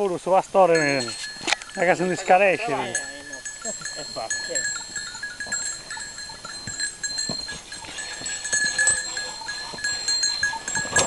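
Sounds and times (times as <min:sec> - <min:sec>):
high ringing tones: 0:00.7 - 0:11.0.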